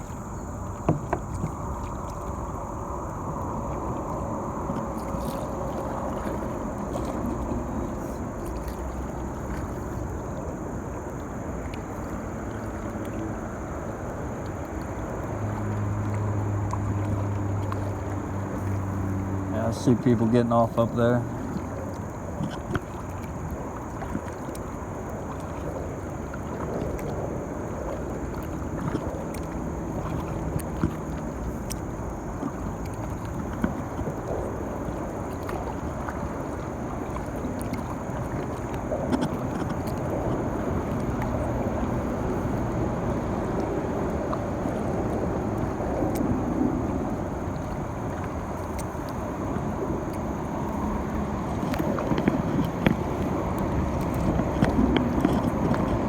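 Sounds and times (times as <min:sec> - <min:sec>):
river water gurgling around kayak: 0:00.0 - 0:56.0.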